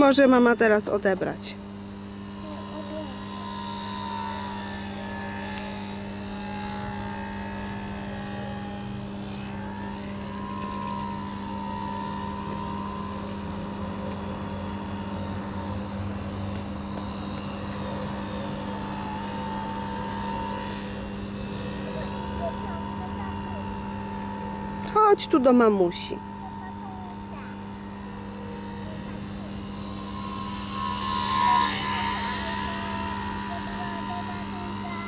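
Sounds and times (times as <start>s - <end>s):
model airplane motor buzzing: 0.0s - 35.0s.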